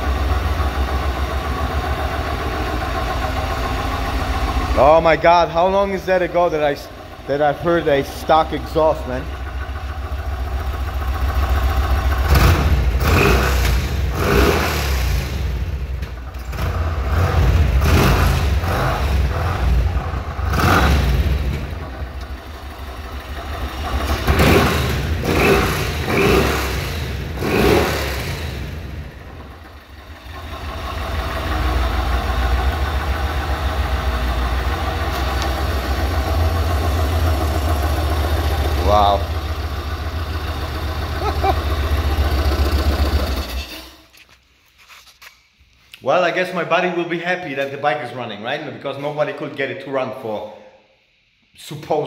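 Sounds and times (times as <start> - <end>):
motorcycle engine idling and revving: 0.0 - 44.1.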